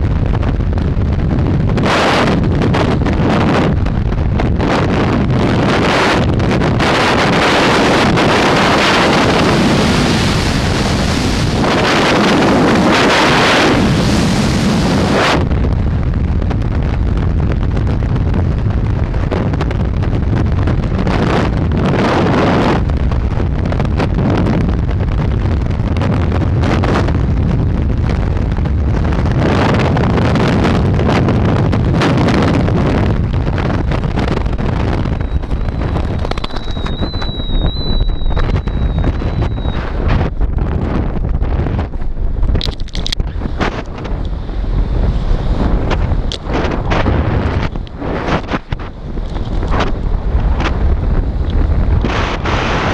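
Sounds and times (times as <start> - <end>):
freefall wind buffeting microphone: 0.0 - 52.9.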